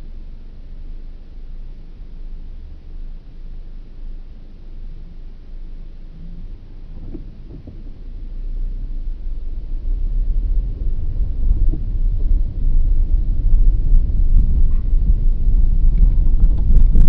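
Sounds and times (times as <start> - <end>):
car engine rumble accelerating: 0.0 - 17.0.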